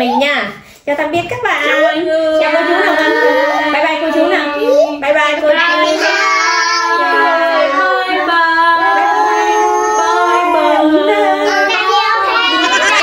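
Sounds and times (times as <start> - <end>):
women and children singing: 1.0 - 13.0.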